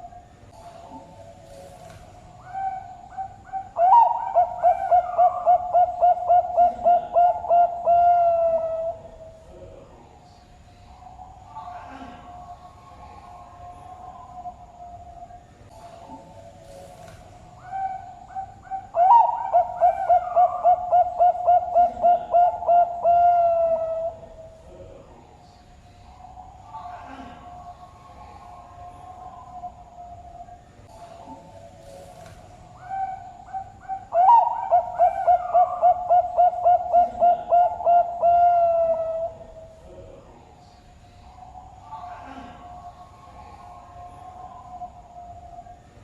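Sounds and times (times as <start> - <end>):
dove cooing: 0.0 - 9.8, 10.9 - 25.2, 26.0 - 40.6.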